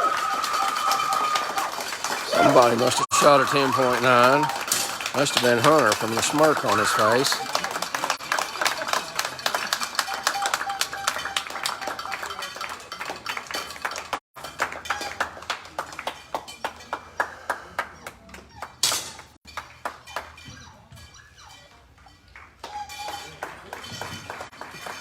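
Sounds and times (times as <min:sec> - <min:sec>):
audience applauding: 0:00.0 - 0:18.6, 0:22.6 - 0:25.0.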